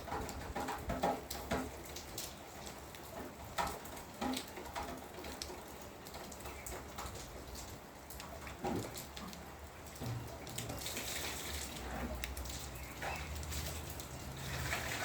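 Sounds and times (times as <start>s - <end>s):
faint rain hiss: 0.0s - 15.0s
raindrops hitting hard surface: 0.0s - 15.0s.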